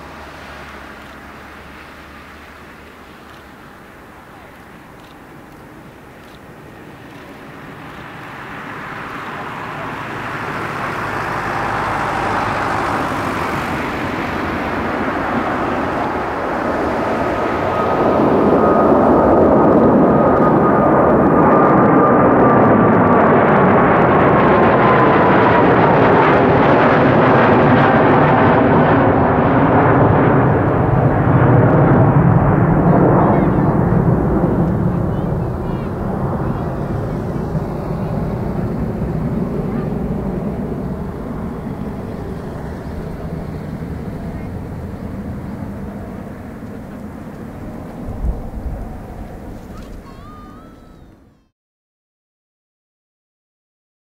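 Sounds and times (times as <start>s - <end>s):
jet engine roar with whine: 0.0s - 51.4s.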